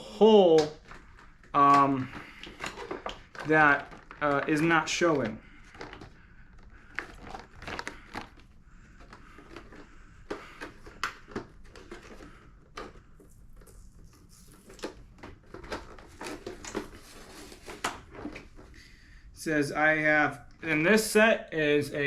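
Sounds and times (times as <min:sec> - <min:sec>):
objects being handled: 0:00.0 - 0:18.9.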